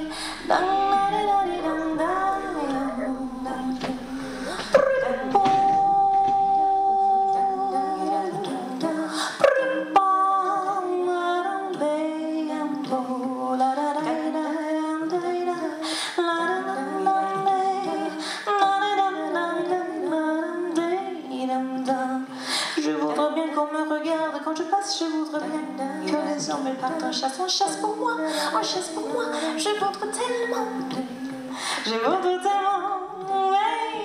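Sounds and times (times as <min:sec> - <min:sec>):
woman singing wordless melody: 0:00.0 - 0:34.0.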